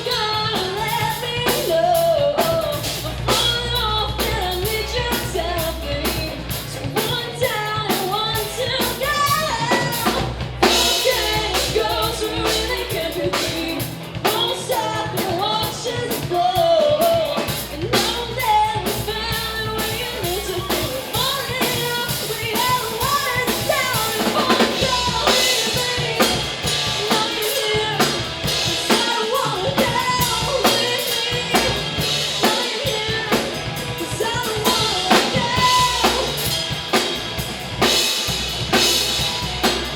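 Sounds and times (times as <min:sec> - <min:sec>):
person singing: 0:00.0 - 0:36.6
drum kit beat: 0:00.0 - 0:39.9
live band playing: 0:00.0 - 0:39.9.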